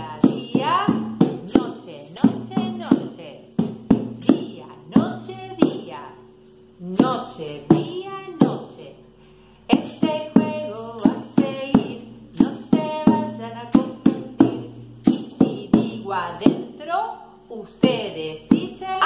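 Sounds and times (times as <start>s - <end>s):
women singing: 0.0s - 3.6s, 4.2s - 6.1s, 6.8s - 9.0s, 9.7s - 19.0s
bongos played by hand: 0.0s - 9.0s, 9.6s - 19.0s
tambourine jingling: 0.0s - 19.0s.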